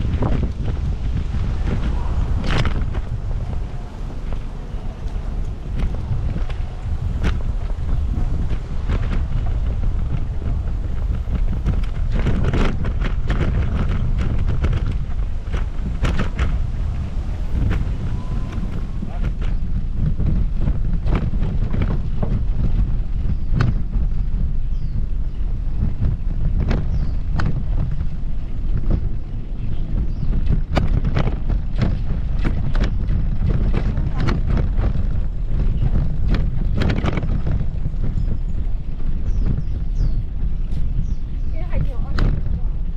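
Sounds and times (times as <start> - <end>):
footsteps on paved path: 0.0 - 42.9
wind buffeting microphone: 0.0 - 42.9.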